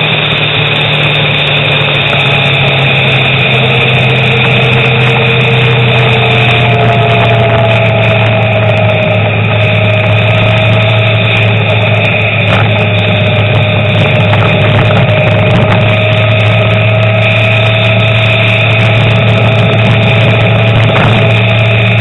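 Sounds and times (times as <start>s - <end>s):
road noise: 0.0s - 22.0s
vehicle engine drone: 0.0s - 22.0s.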